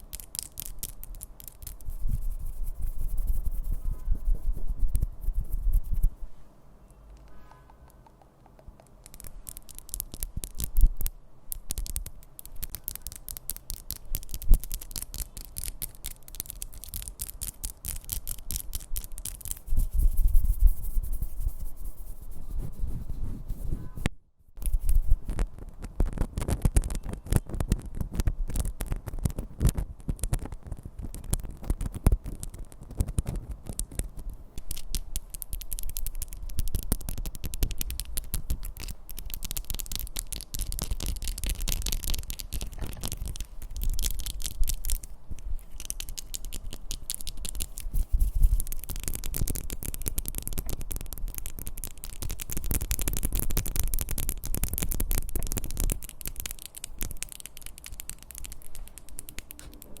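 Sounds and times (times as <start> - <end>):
scratchy rubbing: 0.0 - 6.4, 7.2 - 60.0
scratchy hiss: 0.0 - 60.0.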